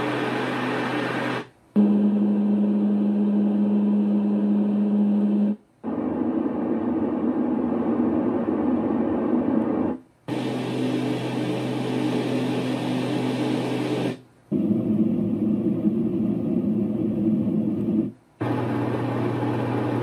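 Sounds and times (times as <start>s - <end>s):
steady low hum: 0.0s - 20.0s
white noise machine: 0.0s - 20.0s.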